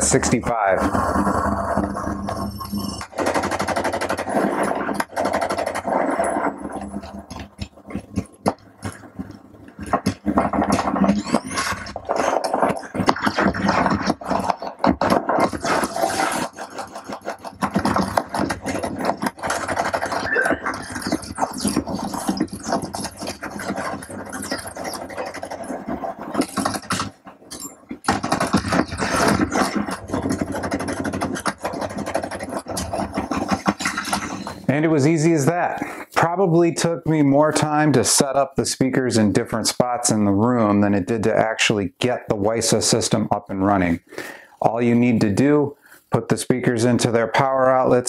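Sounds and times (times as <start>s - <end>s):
constant noise: 0.0s - 48.0s.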